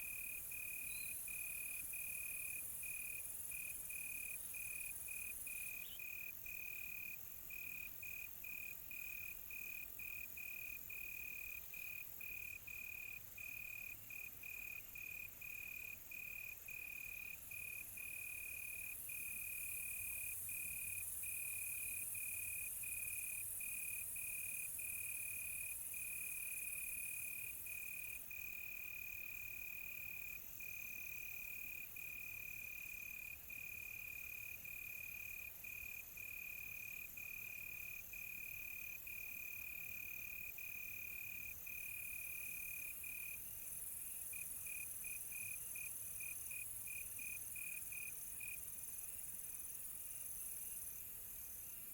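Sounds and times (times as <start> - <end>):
crickets chirping: 0.0 - 51.9
high insect hiss: 0.0 - 51.9.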